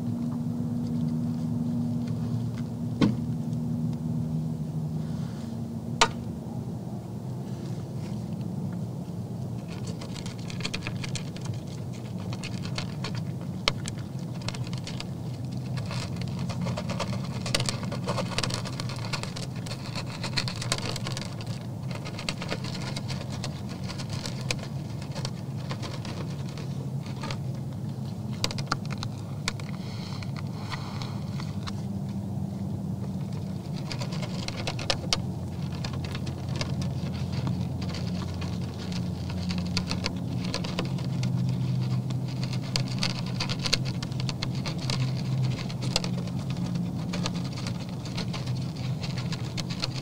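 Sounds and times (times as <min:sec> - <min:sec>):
steady low hum: 0:00.0 - 0:50.0
deer crunching feed: 0:07.3 - 0:50.0.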